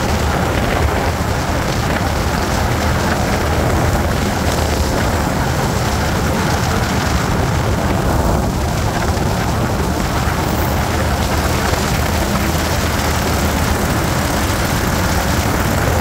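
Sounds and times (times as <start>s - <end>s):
pickup engine running: 0.0s - 16.0s
tyre and road noise: 0.0s - 16.0s.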